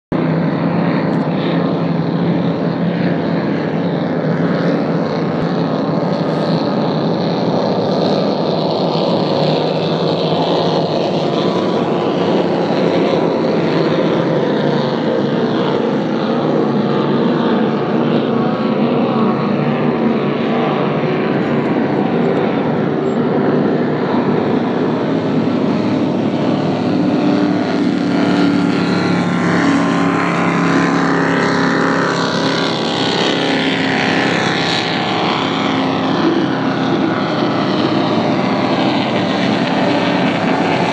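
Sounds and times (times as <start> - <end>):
powerboat engine drone: 0.1 - 40.9
rushing water and wind: 0.1 - 40.9.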